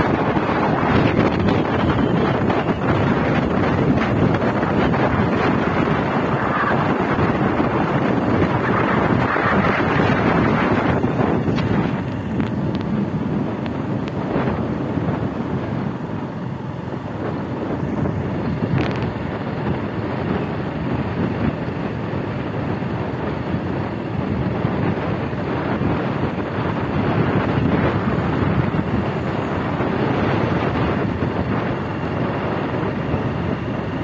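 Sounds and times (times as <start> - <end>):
vehicle rumble and tyres on road: 0.0 - 34.0
wind buffeting microphone: 0.0 - 34.0.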